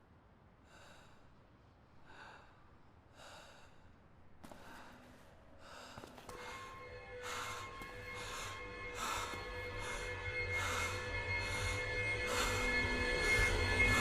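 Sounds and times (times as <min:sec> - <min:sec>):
quiet music drone: 0:00.0 - 0:14.0
soft breaths or pants: 0:00.6 - 0:14.0.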